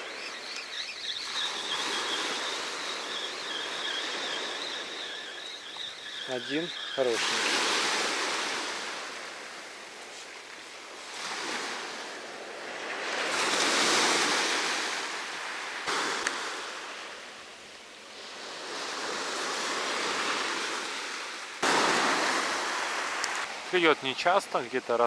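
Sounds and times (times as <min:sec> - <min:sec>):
sea surf washing on beach: 0:00.0 - 0:25.0.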